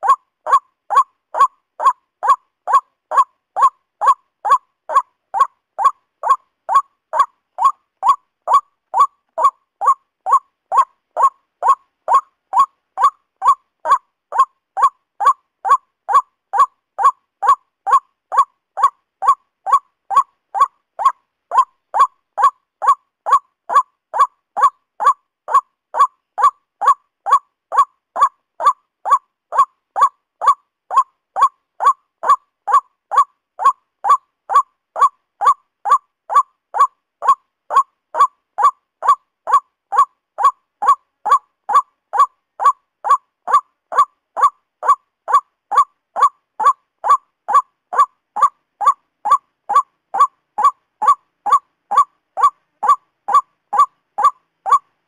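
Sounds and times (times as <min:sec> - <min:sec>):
waterhen calling: 0:00.0 - 0:55.0.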